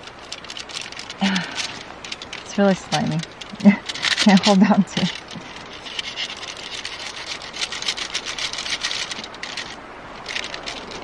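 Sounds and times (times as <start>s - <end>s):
knife scraping on foil: 0.0s - 11.0s.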